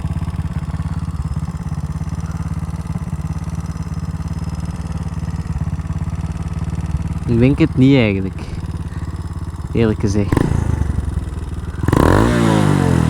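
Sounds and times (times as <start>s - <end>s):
exhaust backfiring: 0.0s - 13.0s
motorcycle engine idling: 0.0s - 13.0s.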